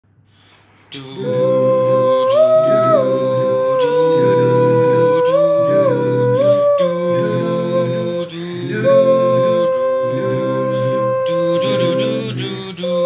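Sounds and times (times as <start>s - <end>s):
vocal group humming in harmony: 0.9s - 13.0s.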